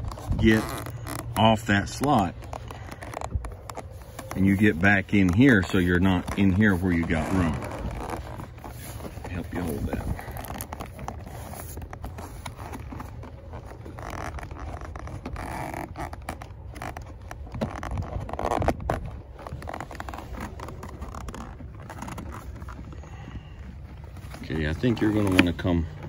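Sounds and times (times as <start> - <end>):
leather scraping on leather: 0.0 - 26.0.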